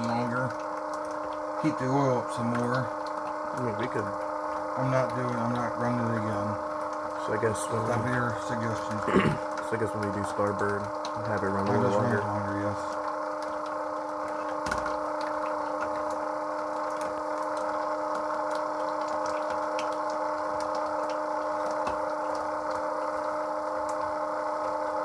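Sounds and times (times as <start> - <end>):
oil pump humming: 0.0 - 25.0.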